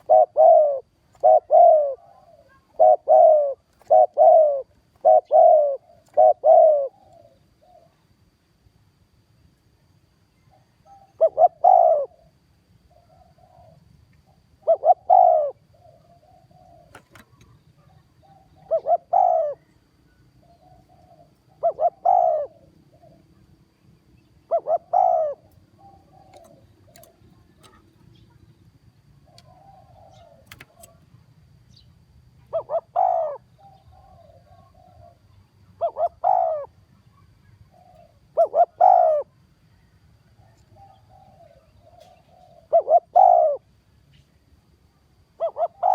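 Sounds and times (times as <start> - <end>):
dove cooing: 0.0 - 8.1, 10.4 - 23.7, 24.3 - 31.1, 32.2 - 43.8, 45.2 - 45.9.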